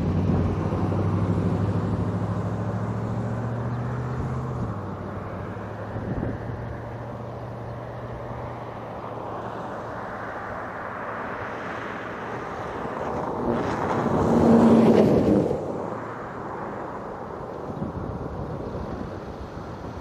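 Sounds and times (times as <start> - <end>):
vehicle passing by: 0.0 - 20.0.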